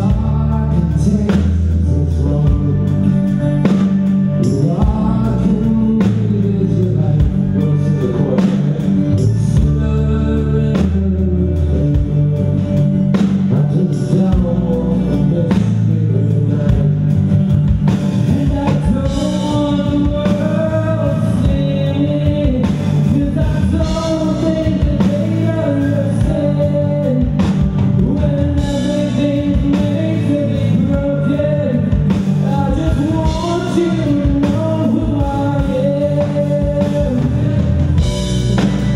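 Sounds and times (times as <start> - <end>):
live rock band playing: 0.0 - 38.9
person singing lead vocal: 0.0 - 38.9.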